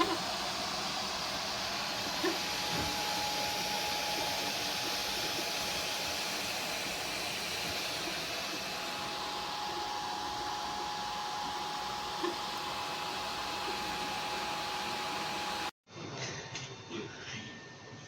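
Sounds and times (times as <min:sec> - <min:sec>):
cooling fans whirring: 0:00.0 - 0:15.7
thin high whine: 0:00.0 - 0:15.7.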